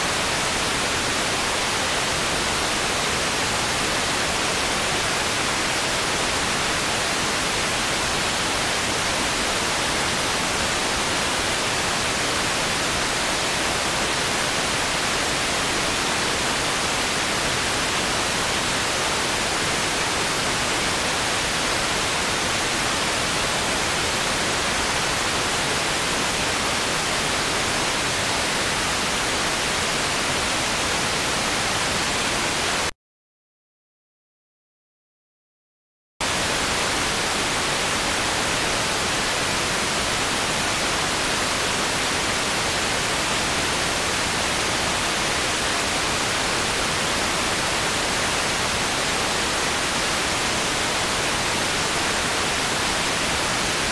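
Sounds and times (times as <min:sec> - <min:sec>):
loud static hiss: 0:00.0 - 0:32.9, 0:36.2 - 0:53.9.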